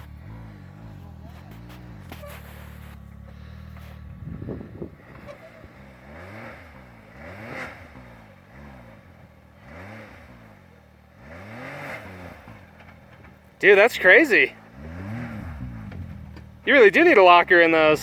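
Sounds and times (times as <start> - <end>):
engine revving: 0.0 - 18.0.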